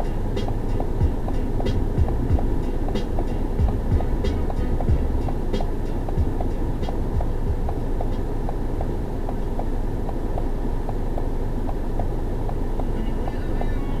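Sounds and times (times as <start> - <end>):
light regular ticking: 0.0 - 13.1
car engine rumbling: 0.0 - 14.0.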